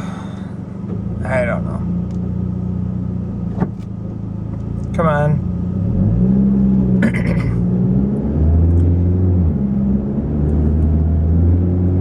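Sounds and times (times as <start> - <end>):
car engine hum: 0.0 - 12.0
road noise inside car: 0.0 - 12.0.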